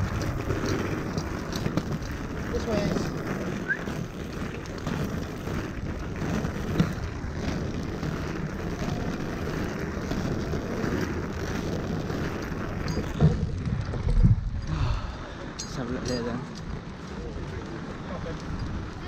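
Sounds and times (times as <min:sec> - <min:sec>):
skate wheels rolling on pavement: 0:00.0 - 0:19.0
wind buffeting microphone: 0:00.0 - 0:19.0.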